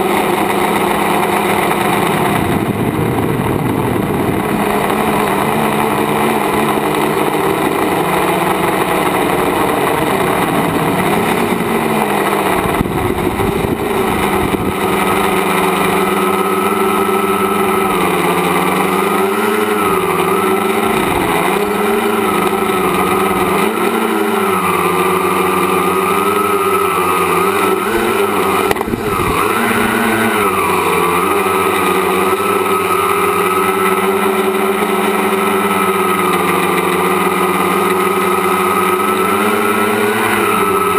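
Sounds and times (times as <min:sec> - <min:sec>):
electric motors and propellers buzzing: 0:00.0 - 0:40.9.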